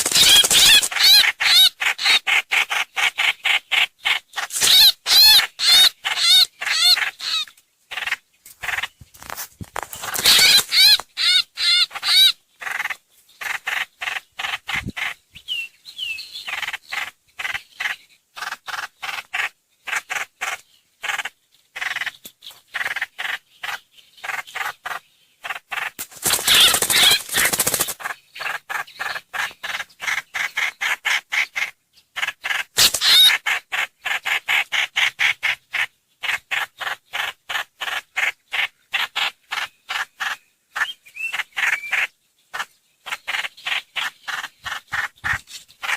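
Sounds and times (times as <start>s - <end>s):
bird calling: 0.0s - 9.2s, 10.0s - 45.9s.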